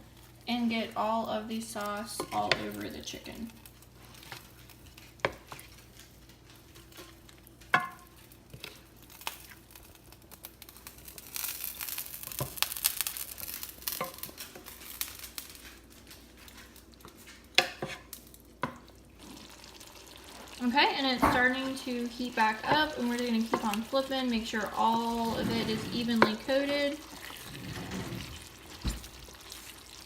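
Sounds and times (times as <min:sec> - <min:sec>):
sauce sizzling: 0:00.0 - 0:15.7, 0:18.0 - 0:27.6, 0:28.2 - 0:30.0.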